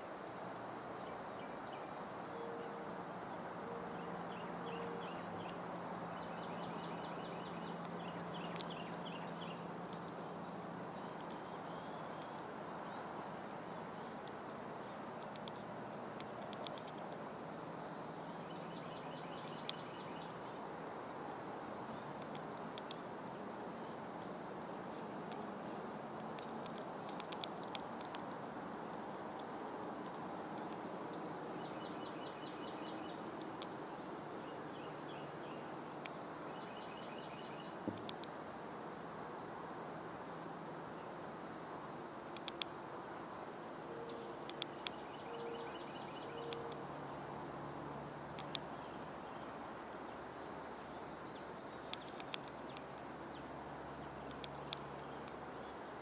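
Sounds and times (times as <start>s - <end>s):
crickets chorus: 0.0s - 56.0s
high insect buzz: 0.0s - 56.0s.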